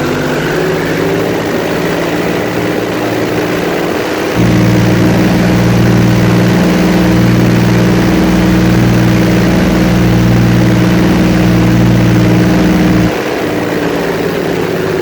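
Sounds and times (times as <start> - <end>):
airboat engine and propeller drone: 0.0 - 15.0.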